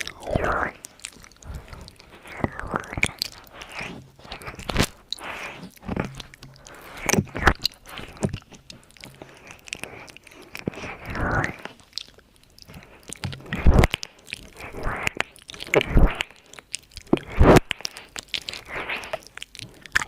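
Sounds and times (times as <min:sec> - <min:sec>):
wet mouth clicks and pops: 0:00.0 - 0:20.0.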